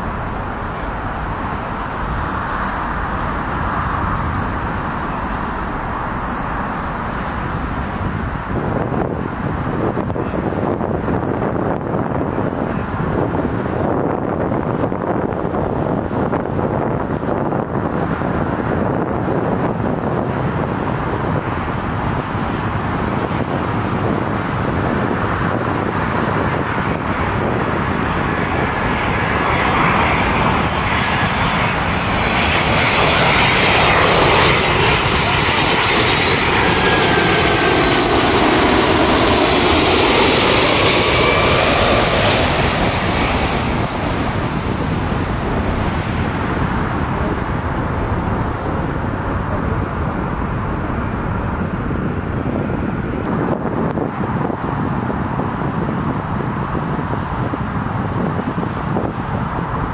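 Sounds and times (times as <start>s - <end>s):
jet airliner passing over: 0.0s - 59.9s.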